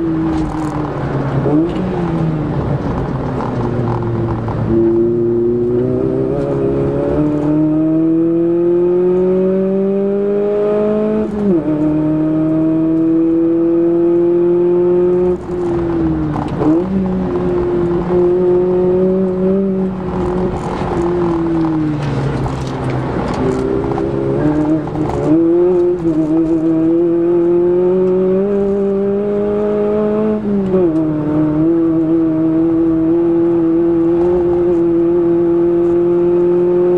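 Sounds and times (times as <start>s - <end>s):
car engine revving from inside cabin: 3.5s - 36.9s.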